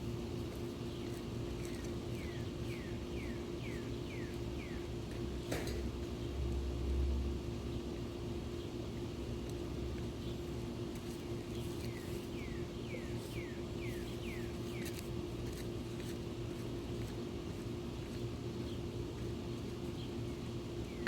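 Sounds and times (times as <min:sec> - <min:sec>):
low hum and rumble: 0:00.0 - 0:21.0.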